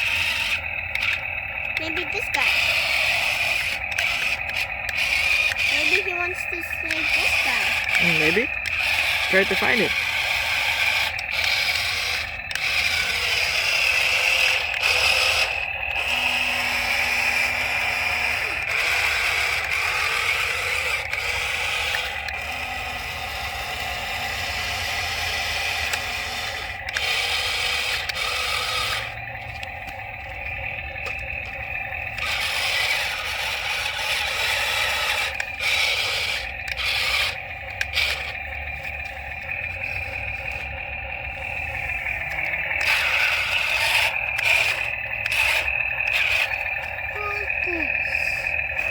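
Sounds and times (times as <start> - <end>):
toy excavator scraping: 0.0 - 48.9
toy motors and gears whirring: 0.0 - 48.9.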